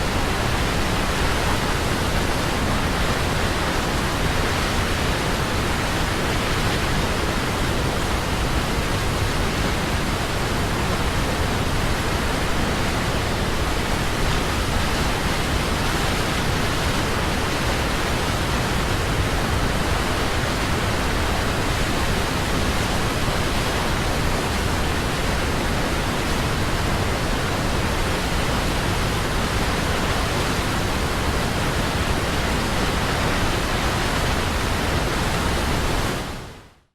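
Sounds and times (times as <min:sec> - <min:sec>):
waterfall roaring: 0:00.0 - 0:36.6.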